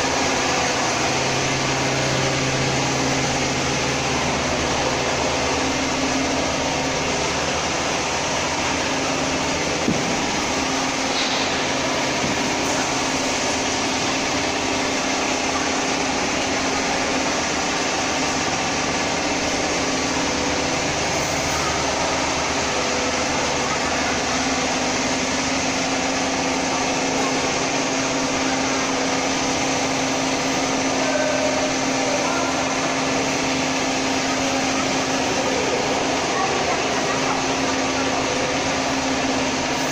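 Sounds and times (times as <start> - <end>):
constant machinery hum: 0.0 - 39.9
factory machinery hiss: 0.0 - 39.9.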